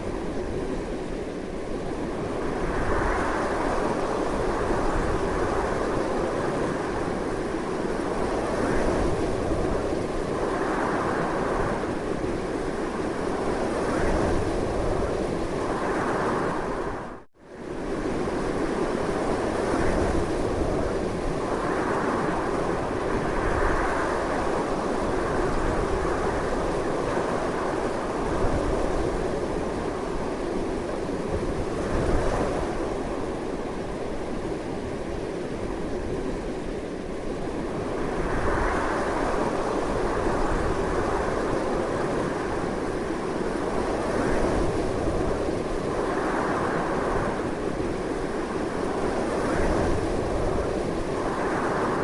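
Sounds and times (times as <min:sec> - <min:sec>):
strong wind blowing: 0:00.0 - 0:52.0.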